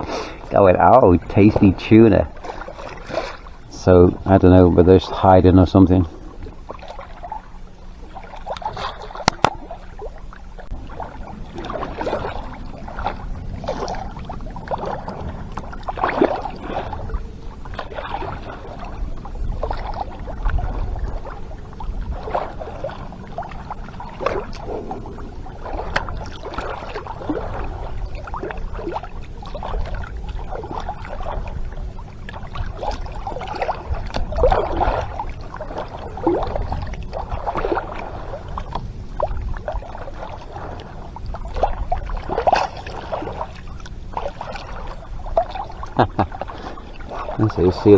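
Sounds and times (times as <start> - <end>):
low steady rumble: 0.0 - 47.9
water sloshing against hull: 0.0 - 47.9.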